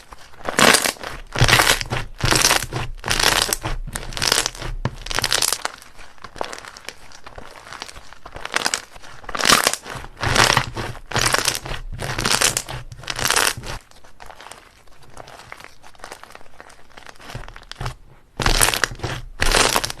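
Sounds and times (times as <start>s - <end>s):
slime crinkling and crackling: 0.0s - 20.0s.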